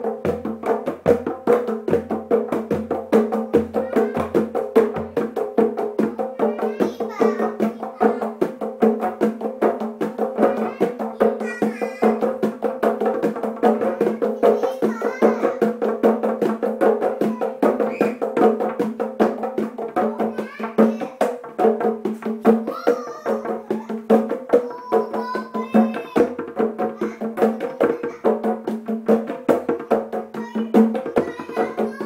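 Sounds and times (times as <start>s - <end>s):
hand drumming: 0.0s - 32.0s.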